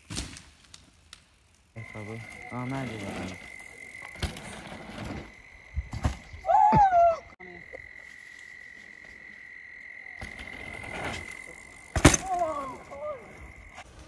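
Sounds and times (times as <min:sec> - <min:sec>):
faint high whine: 0:01.7 - 0:14.0.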